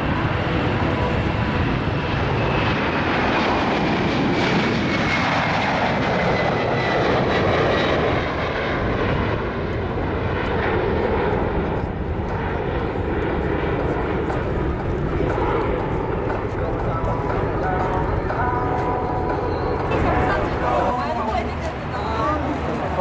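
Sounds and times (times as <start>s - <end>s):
jet engines at take-off: 0.0s - 23.0s.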